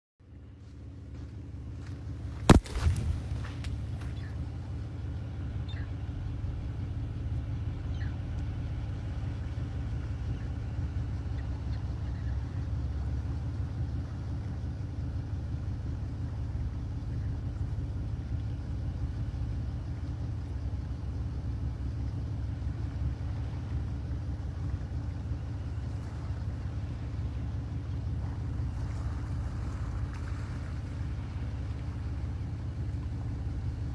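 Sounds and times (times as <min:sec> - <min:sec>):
car engine and tyres rumbling: 0:00.2 - 0:33.9.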